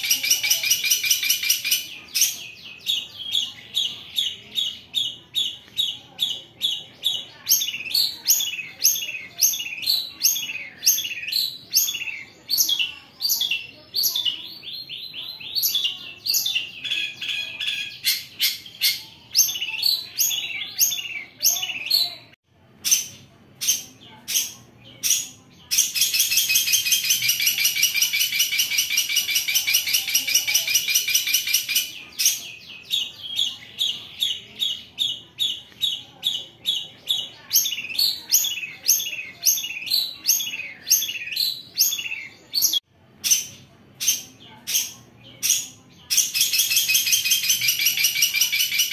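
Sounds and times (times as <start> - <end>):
bird chirping: 0.0 - 48.9
harsh rasping bird chatter: 0.0 - 48.9.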